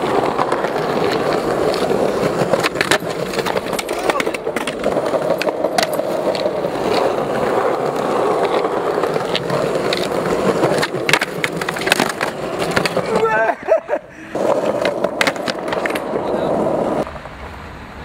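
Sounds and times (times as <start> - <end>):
skateboard clacking on concrete: 0.0 - 13.6, 14.3 - 17.2
skateboard wheels rolling on stone: 0.0 - 18.0.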